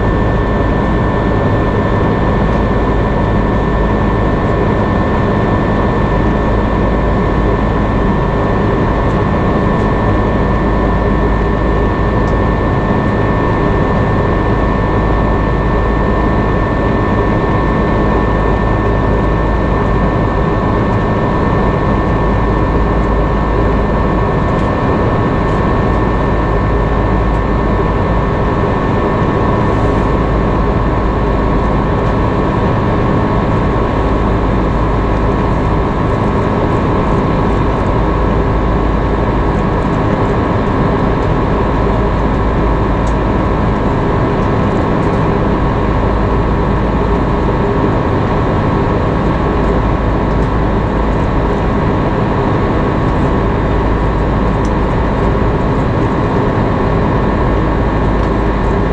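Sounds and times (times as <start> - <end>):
aircraft cabin engine and airflow noise: 0.0 - 58.9
high steady whine: 0.0 - 58.9.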